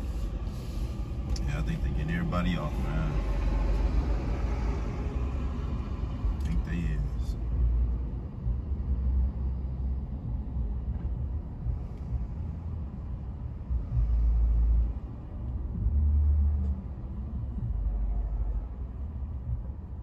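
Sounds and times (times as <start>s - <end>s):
road noise inside cab: 0.0s - 20.0s
vehicle engine rumble: 0.0s - 20.0s.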